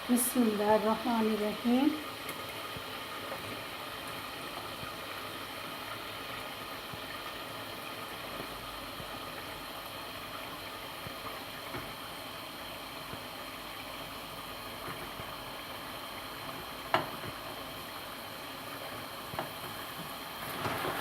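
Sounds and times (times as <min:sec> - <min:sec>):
food sizzling in a pot: 0:00.0 - 0:21.0.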